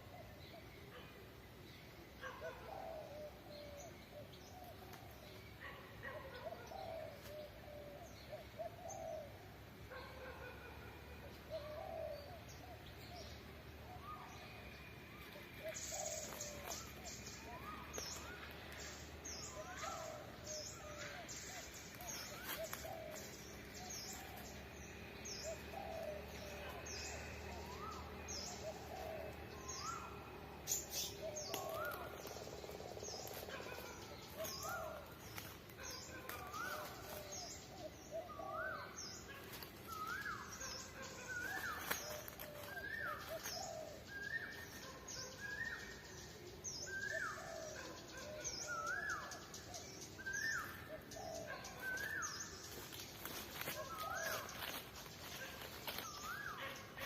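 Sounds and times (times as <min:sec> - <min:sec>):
soft bird chatter: 0:00.0 - 0:57.0.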